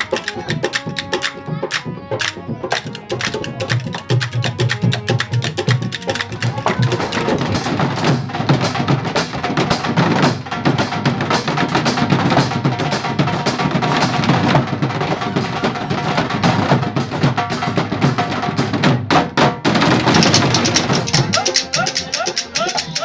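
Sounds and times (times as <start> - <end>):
percussion ensemble on makeshift drums: 0.0 - 23.0.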